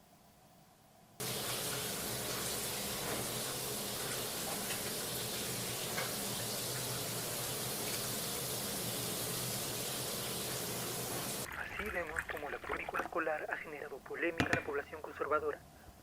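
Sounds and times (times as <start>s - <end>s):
steady hissing noise: 0.0s - 16.0s.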